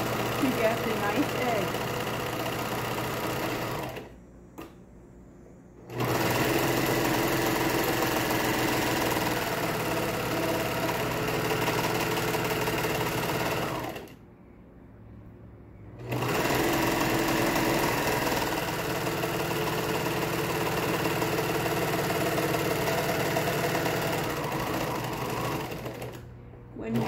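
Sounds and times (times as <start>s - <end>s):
serger sewing machine running: 0.0s - 4.1s, 5.9s - 14.2s, 16.0s - 27.0s.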